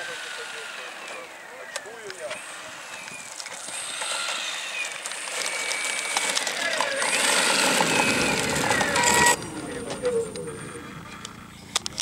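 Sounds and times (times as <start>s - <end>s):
model plane engine rattling: 2.3s - 12.0s.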